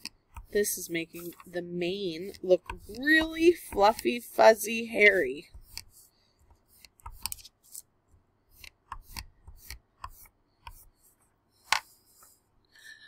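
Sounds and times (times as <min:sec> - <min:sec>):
crayon scratching on paper: 0:00.0 - 0:07.8, 0:08.5 - 0:12.4.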